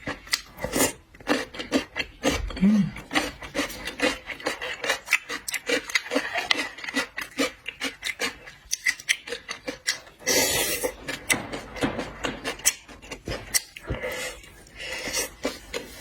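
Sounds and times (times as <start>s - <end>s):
person chewing wetly: 0.0s - 16.0s.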